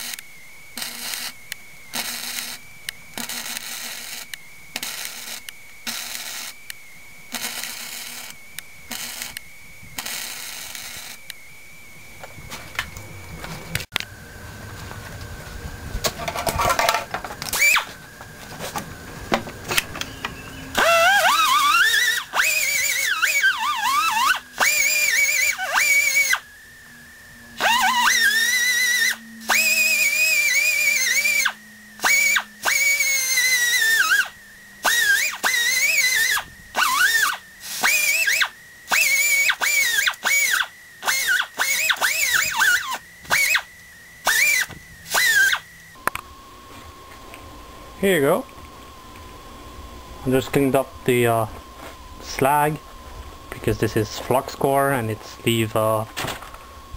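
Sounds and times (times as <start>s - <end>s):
steady high whine: 0.0s - 56.9s
welder arc crackling and buzzing: 0.0s - 56.9s.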